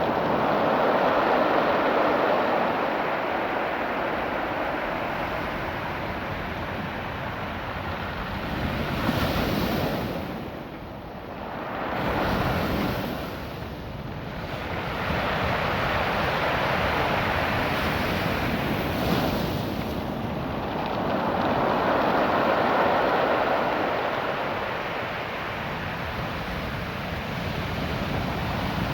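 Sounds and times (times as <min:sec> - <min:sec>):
ocean surf washing in: 0:00.0 - 0:28.9.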